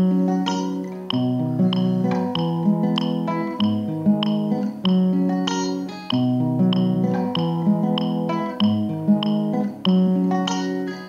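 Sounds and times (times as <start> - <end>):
instrumental keyboard music with beat: 0.0 - 11.0.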